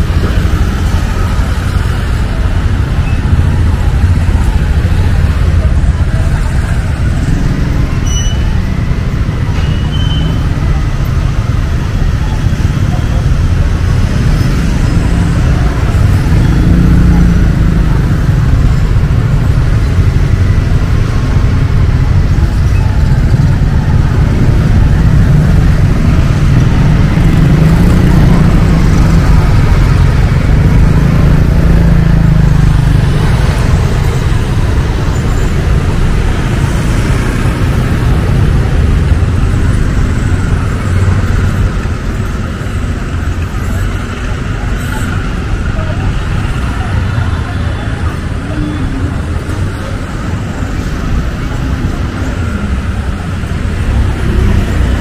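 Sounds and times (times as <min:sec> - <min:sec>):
rumble of passing vehicles: 0:00.0 - 0:55.0
street noise: 0:00.0 - 0:55.0.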